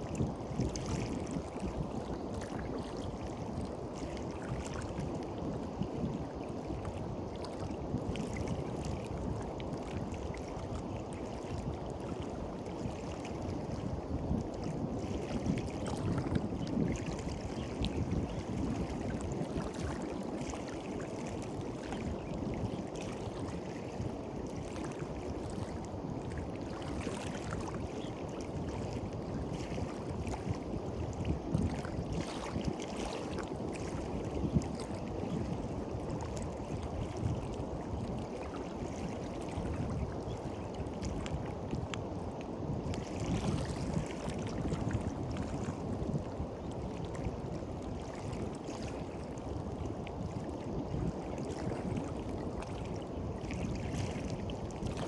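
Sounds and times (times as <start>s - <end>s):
small waves washing onto beach: 0.0s - 55.0s.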